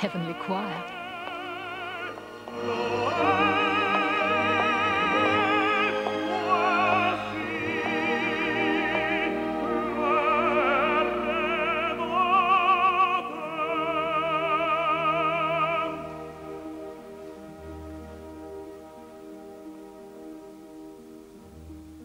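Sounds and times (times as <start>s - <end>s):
operatic tenor singing: 0.0s - 17.6s
orchestra playing: 0.0s - 22.0s.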